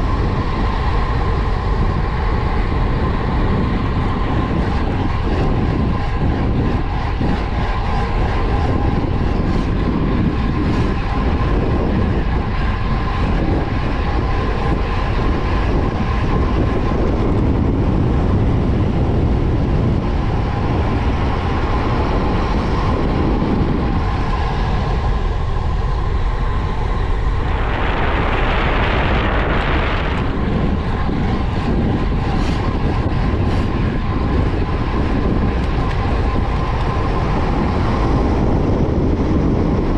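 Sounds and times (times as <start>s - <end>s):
tyres rolling on asphalt: 0.0s - 39.9s
wind rushing over microphone: 0.0s - 39.9s.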